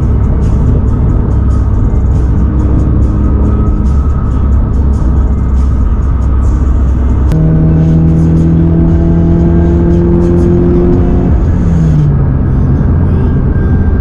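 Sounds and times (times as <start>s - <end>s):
car engine accelerating: 0.0s - 14.0s
low road rumble: 0.0s - 14.0s.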